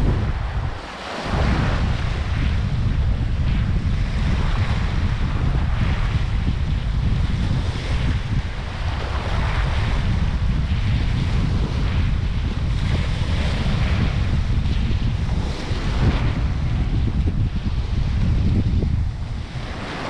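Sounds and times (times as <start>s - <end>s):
sea waves washing on sand: 0.0s - 20.0s
wind buffeting microphone: 0.0s - 20.0s.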